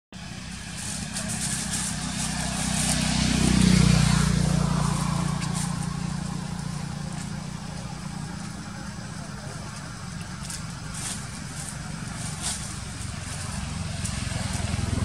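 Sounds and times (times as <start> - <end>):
vehicle engine passing: 0.2 - 15.0.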